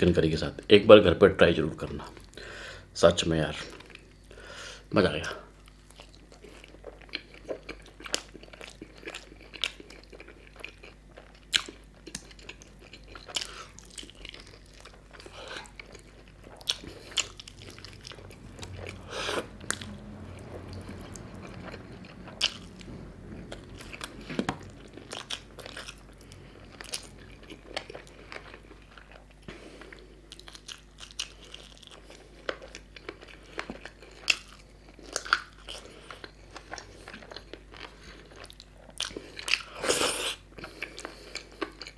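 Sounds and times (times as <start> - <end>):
man chewing and biting food: 5.5 - 41.9.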